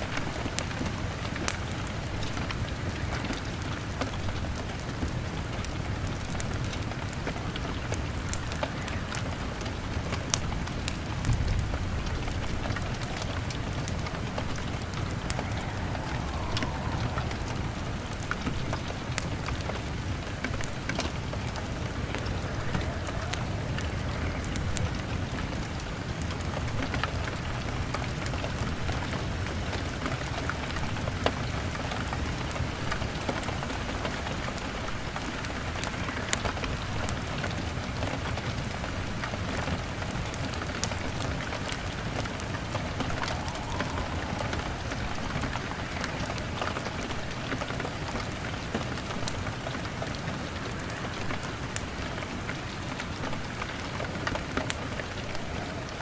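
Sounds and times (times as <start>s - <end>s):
continuous low rumble: 0.0s - 56.0s
log fire crackling: 0.0s - 56.0s
rain on a window: 0.0s - 56.0s.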